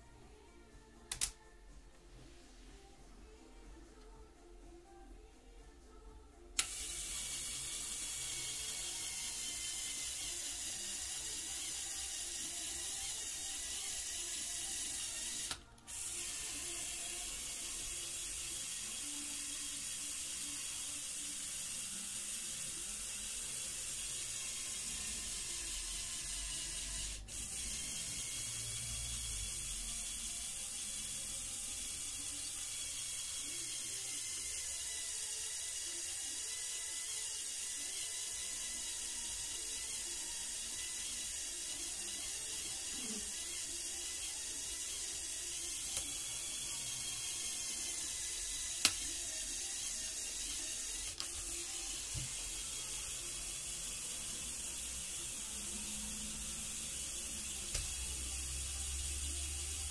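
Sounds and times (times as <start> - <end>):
electric motors whirring: 6.6 - 59.9.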